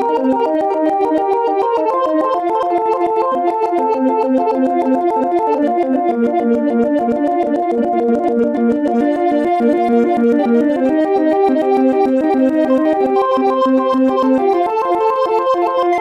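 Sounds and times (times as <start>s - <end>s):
synthesizer arpeggio: 0.0s - 16.0s.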